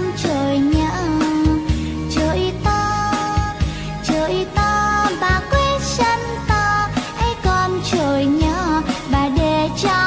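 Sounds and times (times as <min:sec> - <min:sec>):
song over a steady beat: 0:00.0 - 0:10.0.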